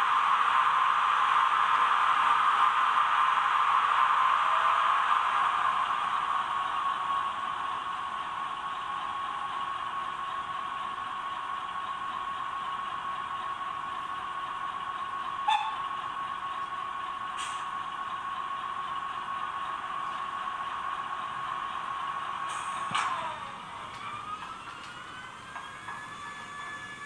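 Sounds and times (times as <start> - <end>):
thin steady whine: 0.0 - 27.0.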